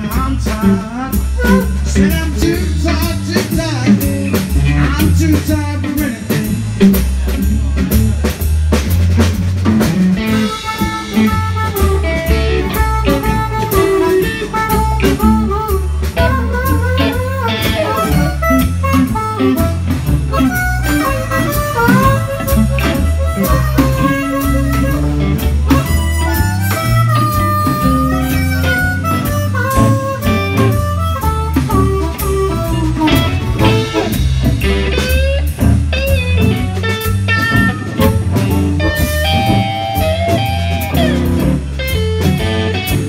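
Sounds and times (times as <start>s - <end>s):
blues band playing: 0.0s - 43.0s.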